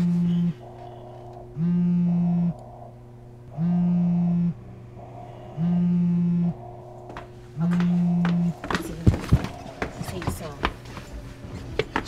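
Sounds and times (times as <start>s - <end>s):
phone vibrating on table: 0.0s - 10.4s
low steady hum: 0.0s - 12.0s.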